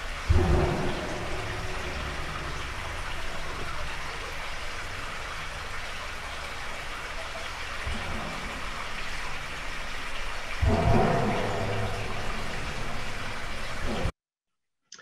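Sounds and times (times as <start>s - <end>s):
water rushing through a drain: 0.0s - 14.1s.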